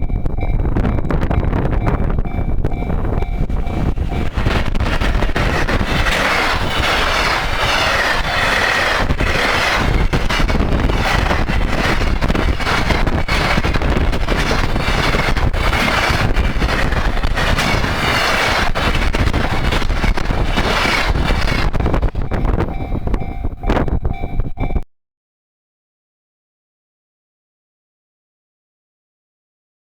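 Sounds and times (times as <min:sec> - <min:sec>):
crossing warning bell: 0:00.0 - 0:24.8
train running noise: 0:00.0 - 0:24.8.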